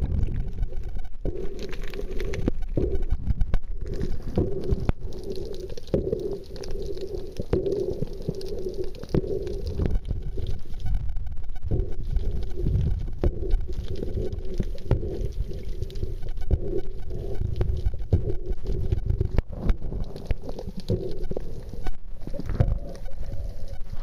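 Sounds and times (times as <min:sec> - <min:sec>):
muffled underwater rumbling drone: 0:00.0 - 0:24.0.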